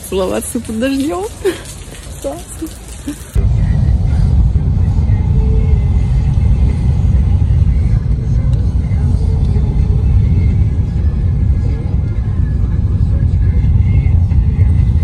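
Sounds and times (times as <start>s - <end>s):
road rumble inside car: 2.2s - 15.0s.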